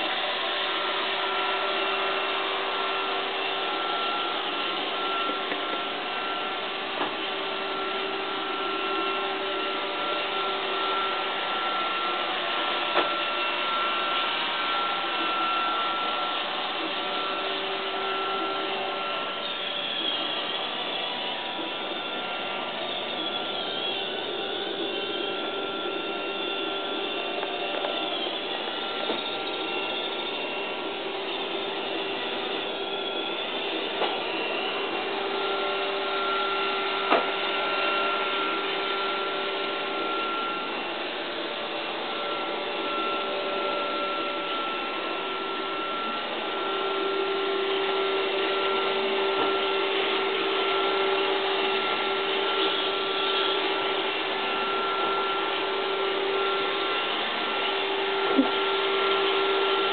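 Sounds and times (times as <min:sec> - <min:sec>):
robot vacuum cleaner whirring: 0:00.0 - 0:59.9.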